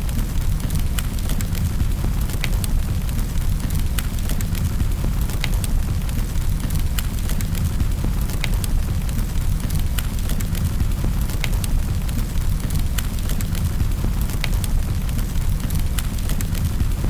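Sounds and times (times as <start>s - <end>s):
wood fire crackling in fireplace: 0.0s - 17.0s.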